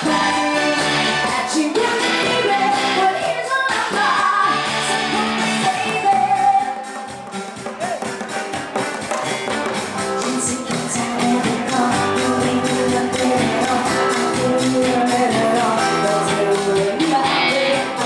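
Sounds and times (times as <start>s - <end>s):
person singing: 0.0s - 8.2s, 10.0s - 18.0s
live band playing: 0.0s - 18.0s.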